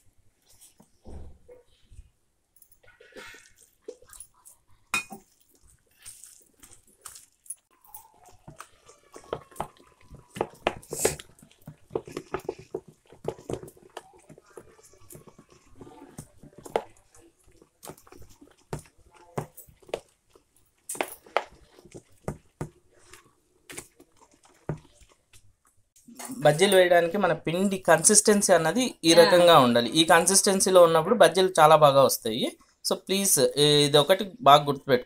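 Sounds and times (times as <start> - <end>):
hand mixing thick batter: 2.8 - 35.0.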